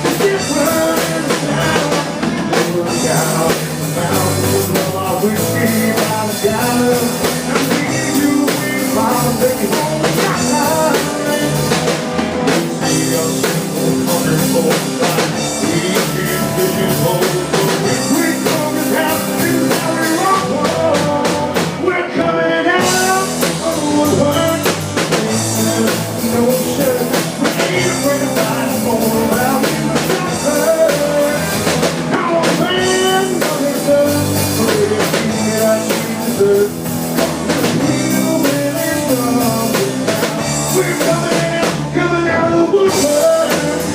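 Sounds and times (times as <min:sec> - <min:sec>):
rock song with drums and singing: 0:00.0 - 0:43.9.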